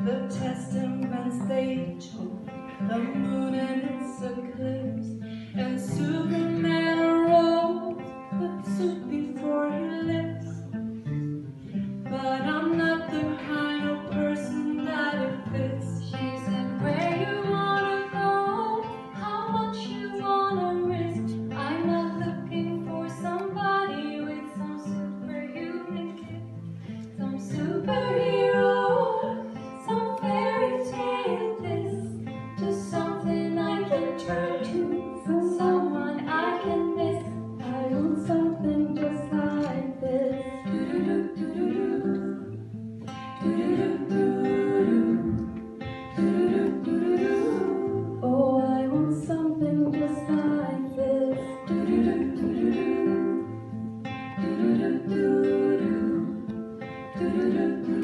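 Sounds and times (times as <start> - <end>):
women singing in harmony: 0.0 - 10.7, 12.1 - 58.0
strummed acoustic guitar: 0.0 - 58.0.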